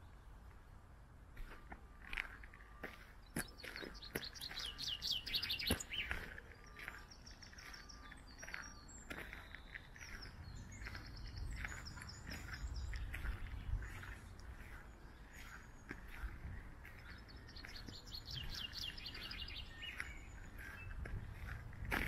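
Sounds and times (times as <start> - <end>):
songbirds singing: 0.0 - 0.8, 1.4 - 22.0
bird chirping: 2.3 - 21.6.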